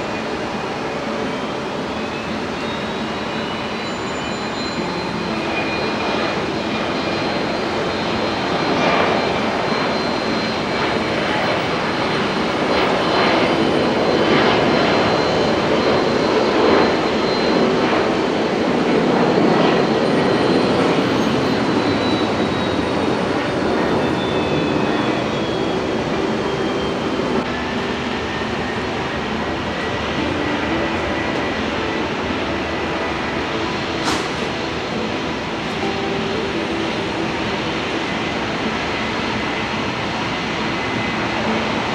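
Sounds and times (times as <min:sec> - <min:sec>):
faint high whine: 0:00.0 - 0:41.9
jet engines roaring: 0:00.0 - 0:41.9.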